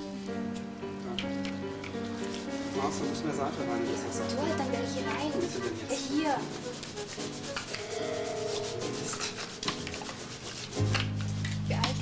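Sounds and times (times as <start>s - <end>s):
brush scrubbing carpet: 1.8s - 12.0s.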